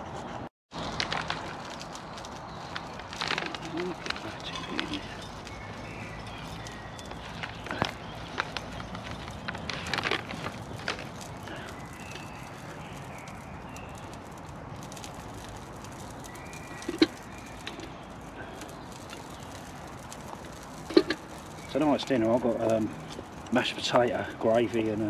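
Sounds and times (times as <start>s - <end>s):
packet crinkling: 0.8s - 25.0s.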